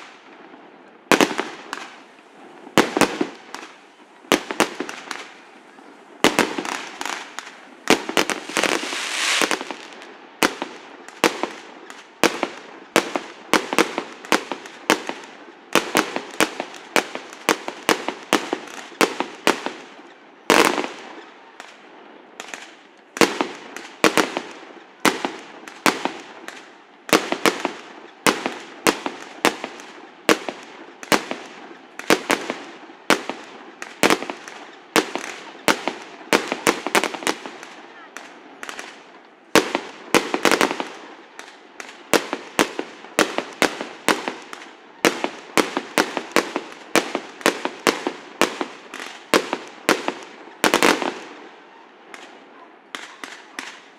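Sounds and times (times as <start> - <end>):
fireworks bangs: 0.0 - 53.9
fireworks crackling: 0.0 - 53.9.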